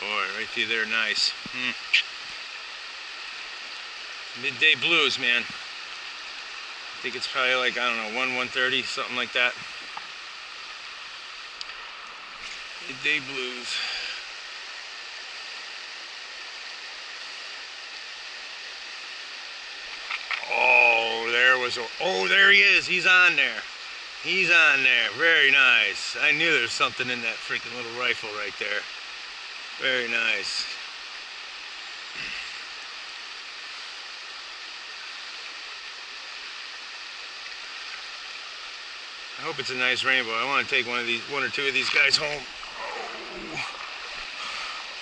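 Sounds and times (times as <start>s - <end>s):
water running over rocks: 0.0s - 45.0s.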